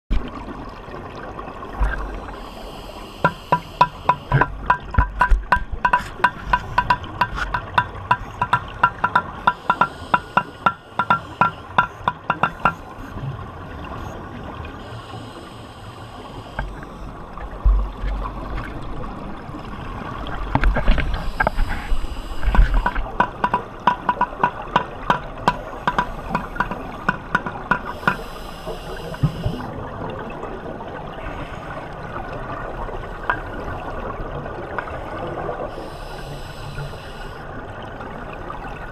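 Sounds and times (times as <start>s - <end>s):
muffled water hiss: 0.1s - 38.9s.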